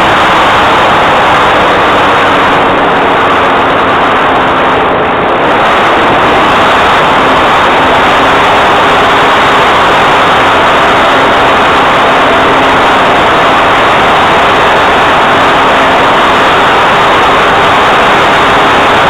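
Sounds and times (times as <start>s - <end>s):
light aircraft engine and propeller: 0.0s - 19.0s
rushing wind: 0.0s - 19.0s.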